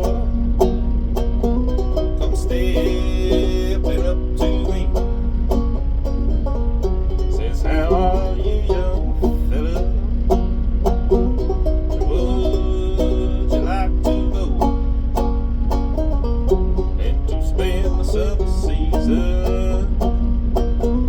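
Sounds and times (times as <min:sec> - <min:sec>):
banjo plucked notes: 0:00.0 - 0:21.0.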